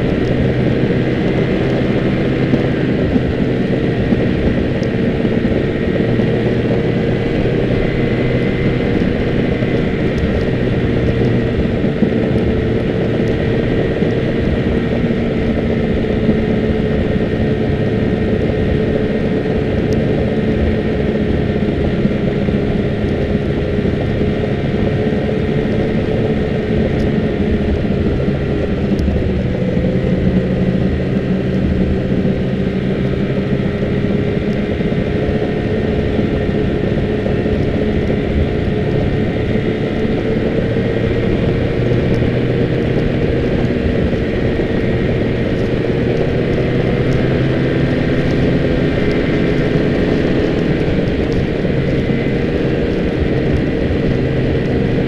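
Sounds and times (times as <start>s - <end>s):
snowmobile engine droning: 0.0s - 55.0s.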